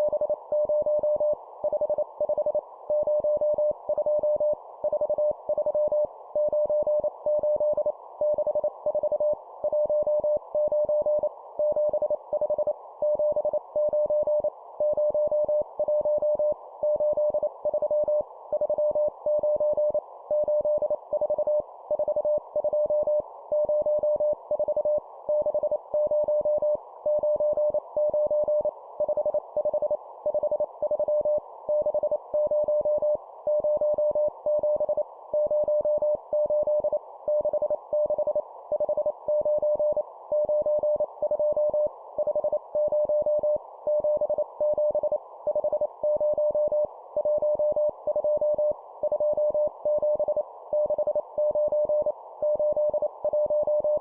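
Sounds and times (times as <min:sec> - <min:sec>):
morse code beeps: 0:00.0 - 0:54.0.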